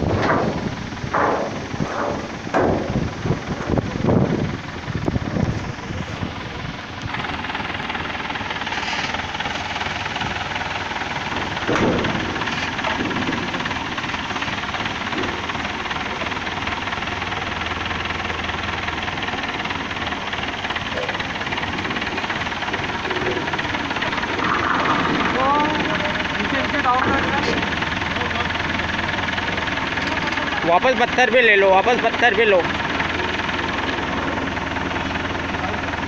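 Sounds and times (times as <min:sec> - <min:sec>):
forklift engine running: 0:00.0 - 0:36.0.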